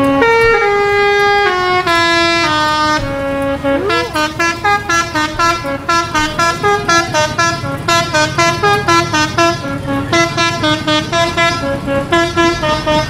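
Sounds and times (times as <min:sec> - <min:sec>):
musical horn playing a tune: 0:00.0 - 0:13.0.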